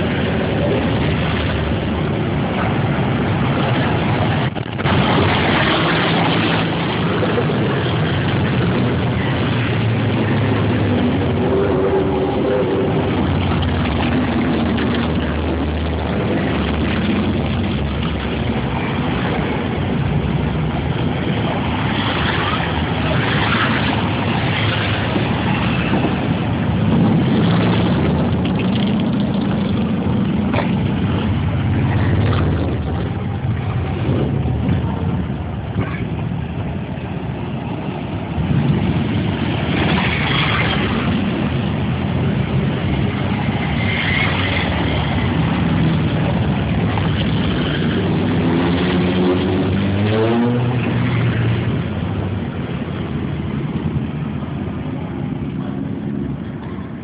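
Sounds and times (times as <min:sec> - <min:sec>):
motorcycle engines droning: 0:00.0 - 0:57.0.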